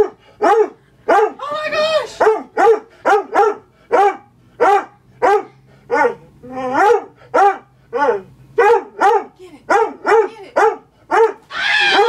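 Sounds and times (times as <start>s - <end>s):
dog barking: 0.0s - 1.4s, 2.1s - 11.4s.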